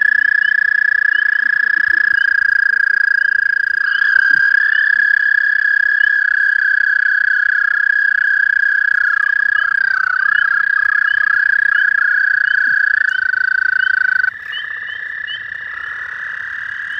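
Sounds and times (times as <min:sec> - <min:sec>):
toads trilling: 0:00.0 - 0:16.9.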